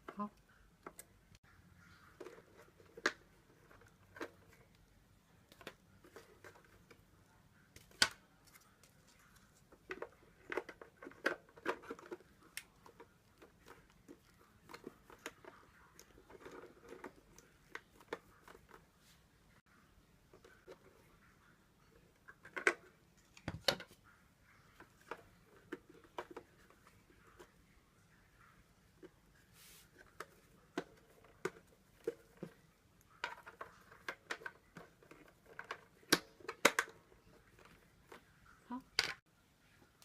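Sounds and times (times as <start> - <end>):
faint irregular clicks and knocks: 0.0 - 40.0
soft steady hiss: 0.0 - 40.0.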